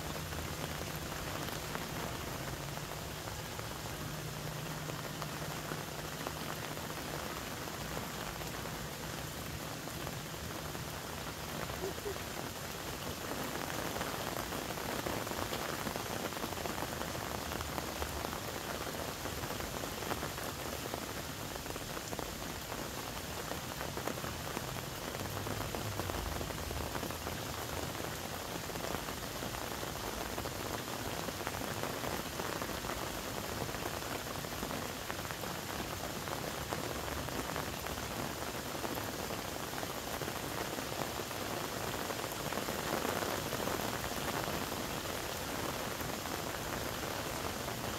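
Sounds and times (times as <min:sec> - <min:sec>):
patter of falling water: 0:00.0 - 0:47.9.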